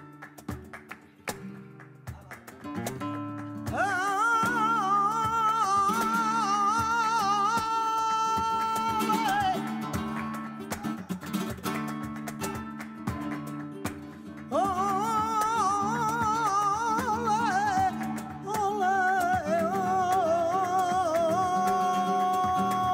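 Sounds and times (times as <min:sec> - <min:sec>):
flamenco guitar: 0:00.0 - 0:22.9.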